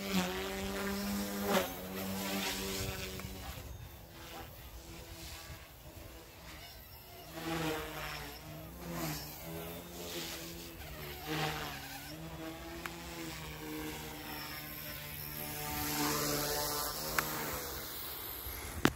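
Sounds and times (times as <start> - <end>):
toy helicopter motor whirring: 0.0 - 18.9.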